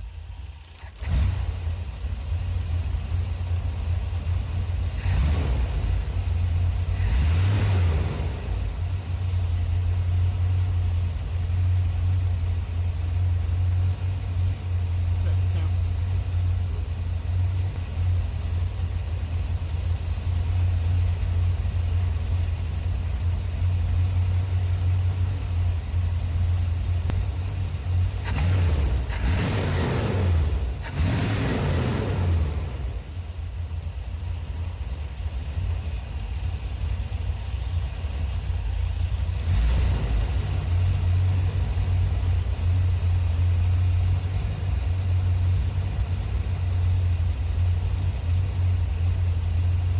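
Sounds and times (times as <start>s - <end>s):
car engine idling: 0.0s - 49.9s
engine revving: 0.6s - 33.8s, 38.0s - 49.9s.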